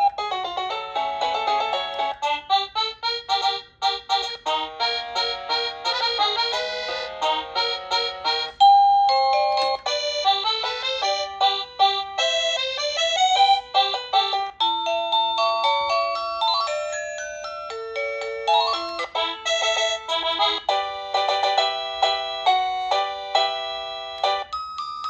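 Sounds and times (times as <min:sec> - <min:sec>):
electronic doorbell chime melody: 0:00.0 - 0:25.0.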